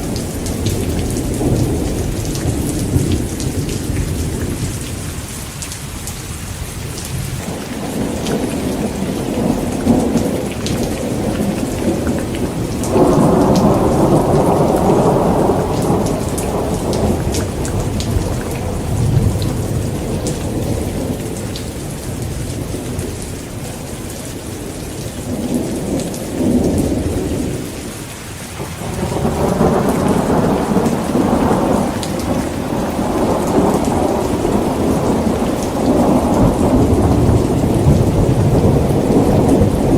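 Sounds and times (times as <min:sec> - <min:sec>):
rolling thunder: 0:00.0 - 0:05.0, 0:07.2 - 0:23.8, 0:28.6 - 0:39.9
heavy rain falling: 0:00.0 - 0:39.9.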